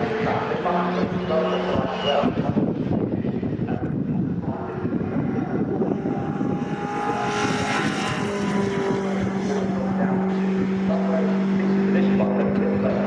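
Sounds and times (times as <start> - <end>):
racing truck engines passing by: 0.0 - 3.0, 4.4 - 13.0.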